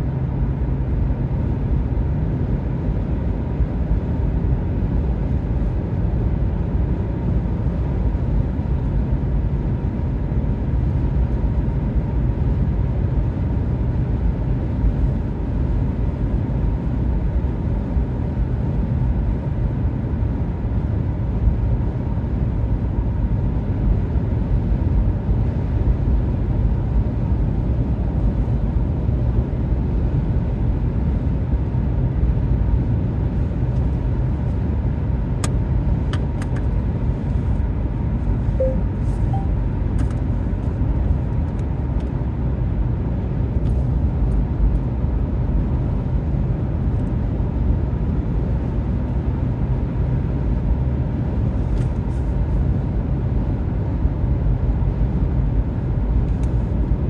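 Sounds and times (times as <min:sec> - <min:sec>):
road and tyre rumble in car: 0:00.0 - 0:57.0.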